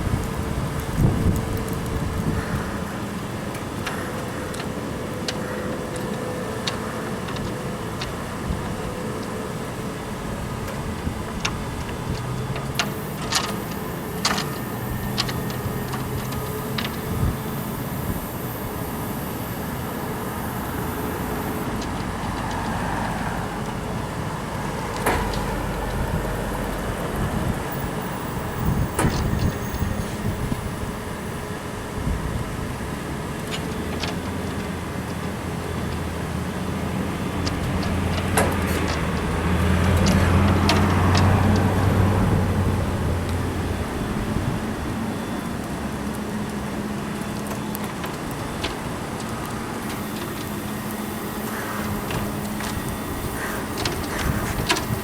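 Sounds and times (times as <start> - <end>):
truck engine running: 5.8 - 55.0.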